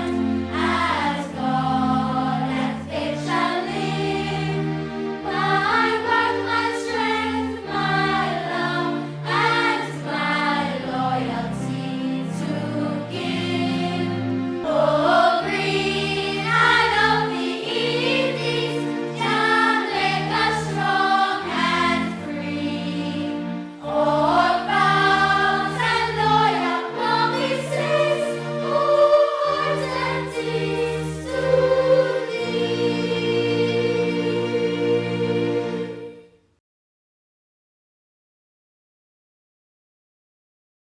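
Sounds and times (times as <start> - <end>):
choral singing: 0.0 - 36.4
low musical accompaniment: 0.0 - 36.6.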